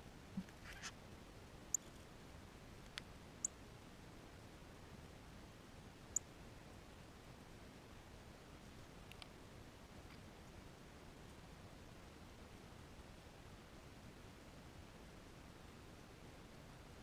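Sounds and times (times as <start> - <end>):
quiet hiss: 0.0 - 17.0.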